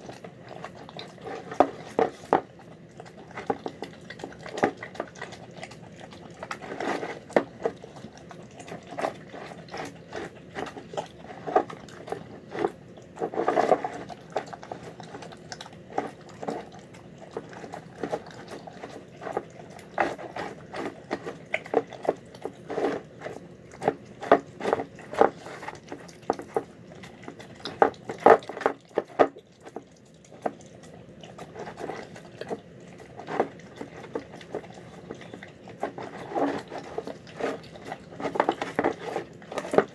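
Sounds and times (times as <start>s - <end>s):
dog chewing and smacking: 0.0s - 39.9s.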